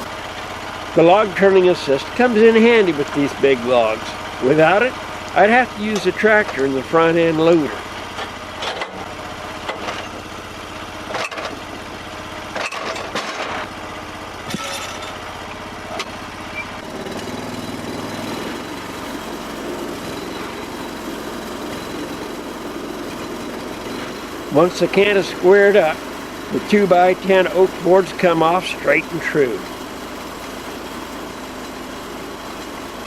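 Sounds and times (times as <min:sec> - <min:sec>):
sawmill engine running: 0:00.0 - 0:33.0.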